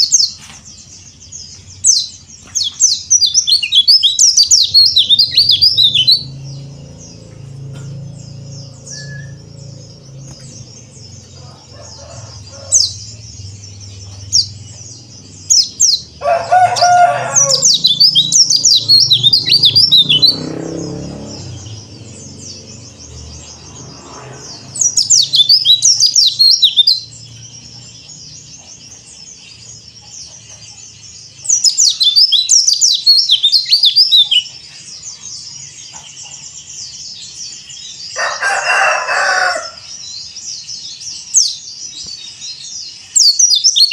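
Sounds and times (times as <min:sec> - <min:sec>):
rapid bird chirping: 0:00.0 - 0:43.9
bird twittering: 0:01.0 - 0:23.6, 0:24.5 - 0:39.8.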